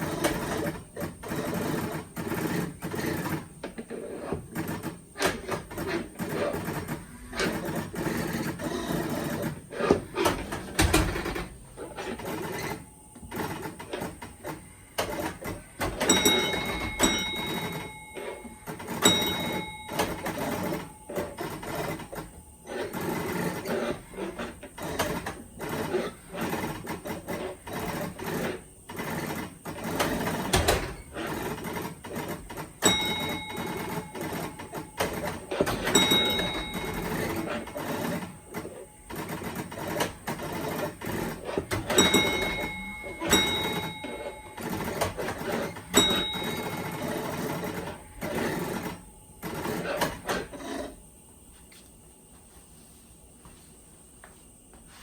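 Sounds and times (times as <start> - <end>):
arcade game mechanism clattering: 4.4 - 24.0, 24.8 - 50.9.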